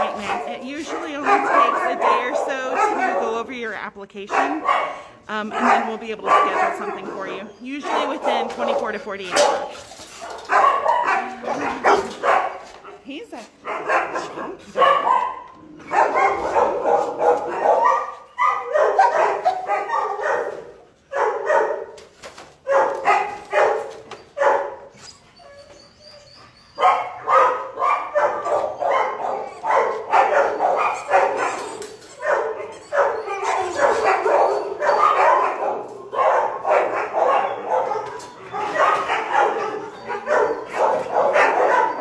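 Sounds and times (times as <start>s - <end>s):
dogs barking: 0.0s - 25.0s, 26.0s - 42.0s.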